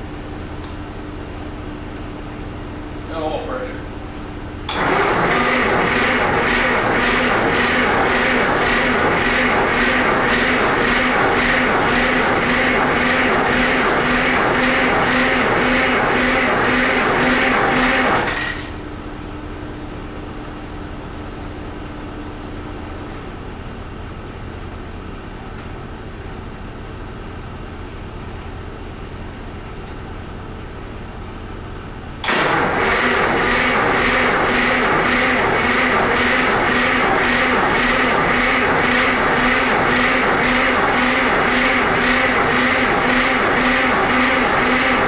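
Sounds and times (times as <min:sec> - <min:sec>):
loud pulsing diesel engine: 0:01.3 - 0:25.2, 0:25.9 - 0:45.0.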